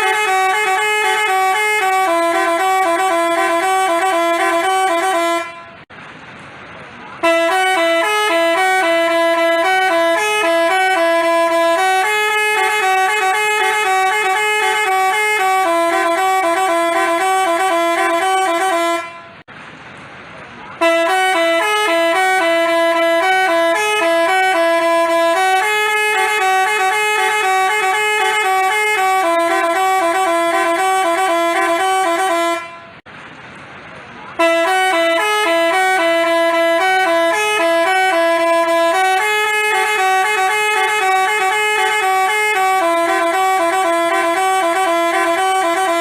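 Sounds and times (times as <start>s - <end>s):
musical bus horn melody: 0.0s - 5.9s, 7.1s - 19.5s, 20.8s - 33.1s, 34.4s - 46.0s.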